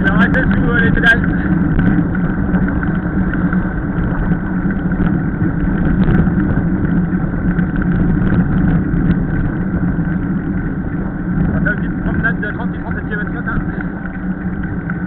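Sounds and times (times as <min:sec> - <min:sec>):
bike tyres on asphalt: 0:00.0 - 0:15.0
faint ticks and rattles: 0:00.0 - 0:15.0
wind on microphone: 0:00.0 - 0:15.0.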